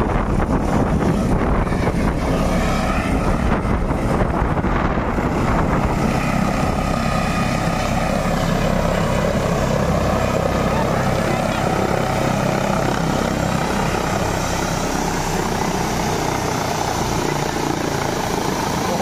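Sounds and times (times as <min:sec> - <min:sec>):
helicopter rotor and engine: 0:00.0 - 0:19.0
turbine whine: 0:00.0 - 0:19.0
wind buffeting microphone: 0:00.0 - 0:19.0.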